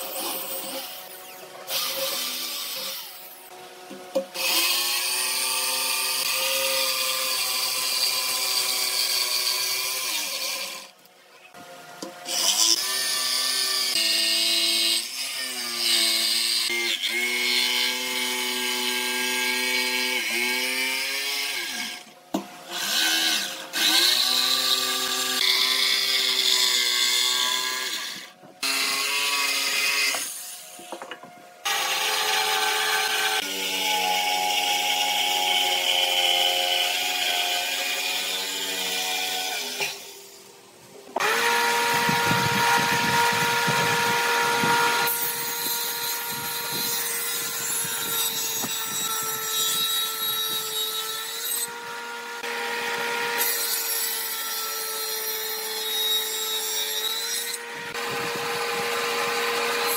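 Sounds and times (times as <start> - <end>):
jigsaw cutting wood: 0.0 - 11.0, 12.2 - 22.1, 22.7 - 30.7, 31.6 - 40.2, 41.2 - 59.9.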